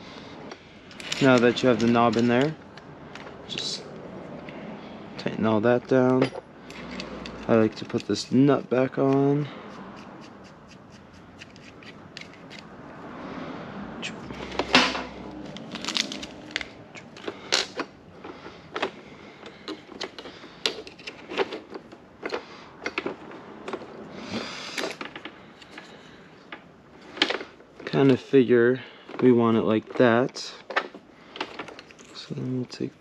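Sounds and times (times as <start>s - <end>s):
small parts clicking and clattering: 0.5s - 3.8s, 5.9s - 12.7s, 14.5s - 23.9s, 24.7s - 28.2s, 28.9s - 32.8s.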